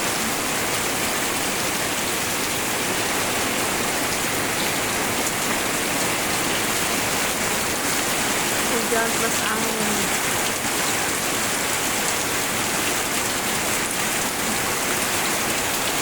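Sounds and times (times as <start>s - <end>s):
heavy rain driven by wind: 0.0s - 16.0s.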